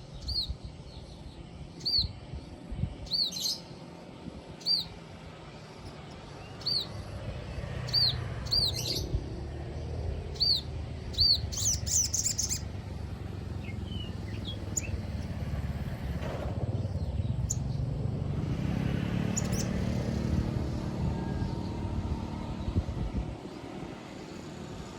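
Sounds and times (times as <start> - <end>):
bird chirping and twittering: 0.0 - 24.6.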